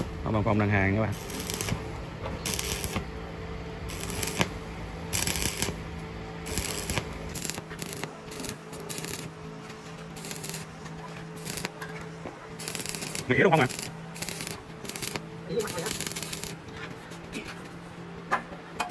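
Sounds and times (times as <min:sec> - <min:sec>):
welding arc crackling and hissing: 0:00.0 - 0:11.8, 0:12.6 - 0:16.7
steady low hum: 0:00.0 - 0:18.8.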